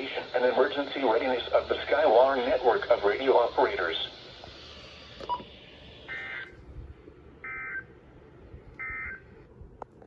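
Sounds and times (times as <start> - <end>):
faint radio hiss: 0.0 - 9.5.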